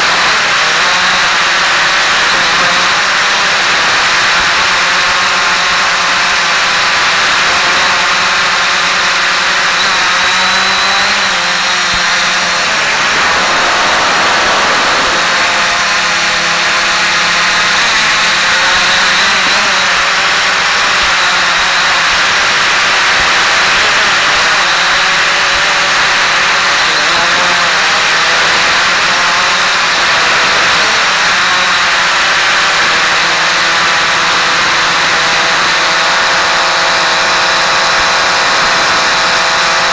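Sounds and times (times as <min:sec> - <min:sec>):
drone motors whirring: 0:00.0 - 0:39.9.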